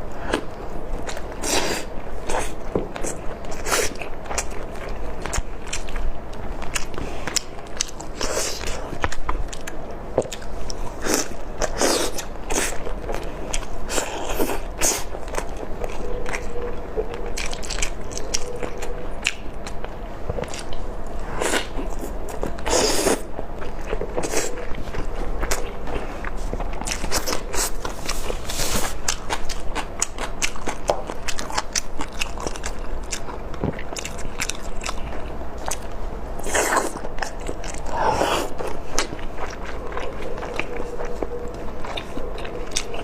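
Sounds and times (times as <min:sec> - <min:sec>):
person chewing chicken: 0:00.1 - 0:43.0.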